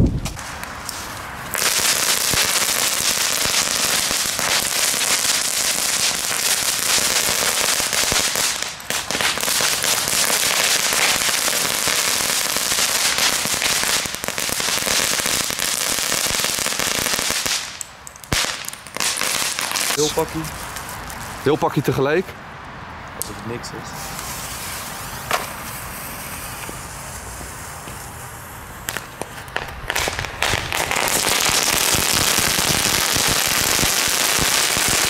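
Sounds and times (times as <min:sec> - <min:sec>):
firecrackers crackling: 0:00.0 - 0:22.2, 0:23.2 - 0:35.0.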